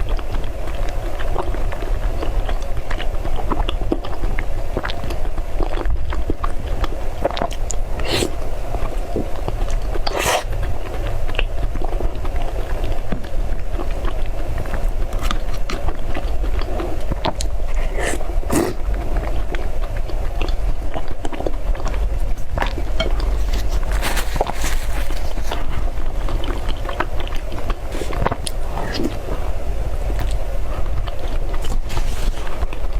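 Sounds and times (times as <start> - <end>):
wet chewing mouth clicks: 0.0 - 29.3
steady low hum: 0.0 - 32.9.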